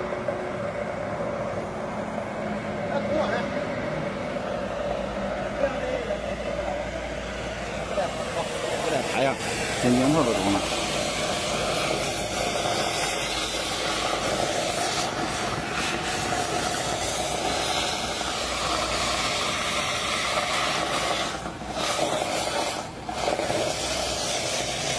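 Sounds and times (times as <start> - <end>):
cutting torch hissing: 0.0 - 24.9.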